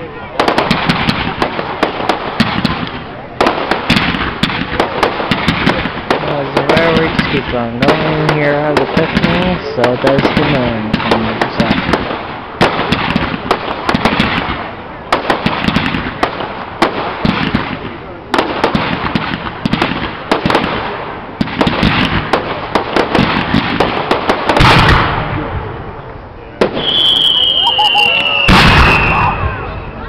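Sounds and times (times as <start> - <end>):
fireworks bangs and pops: 0.1 - 25.7, 26.6 - 29.7
fireworks crackling hiss: 0.3 - 25.4.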